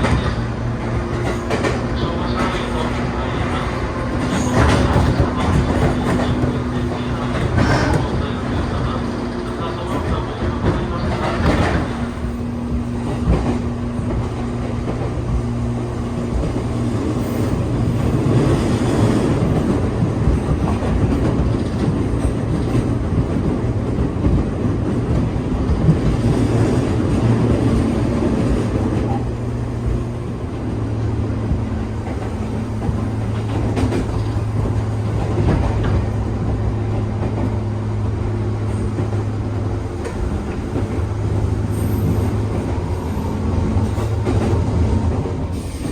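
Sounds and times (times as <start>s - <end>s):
train running noise: 0.0s - 45.9s.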